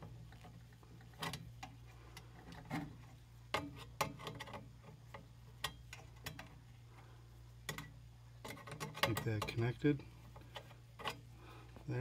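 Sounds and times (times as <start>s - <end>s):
low transformer hum: 0.0s - 12.0s.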